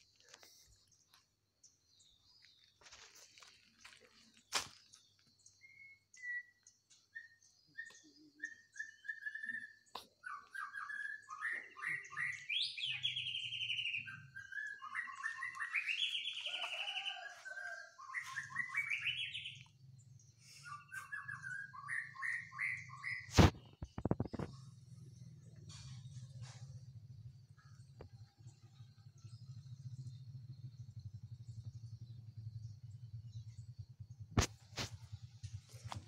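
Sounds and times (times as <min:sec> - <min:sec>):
songbird singing: 0:00.0 - 0:36.0.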